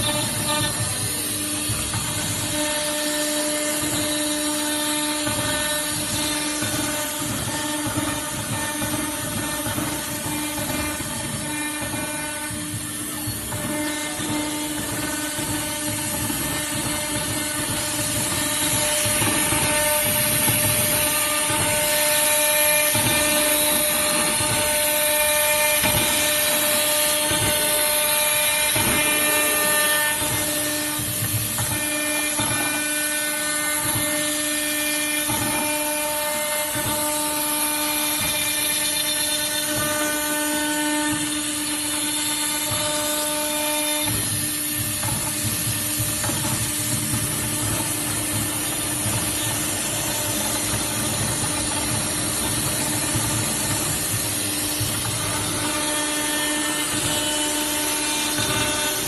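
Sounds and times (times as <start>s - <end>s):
machine whining tones: 0.0s - 59.0s
router spindle cutting metal: 0.0s - 59.0s.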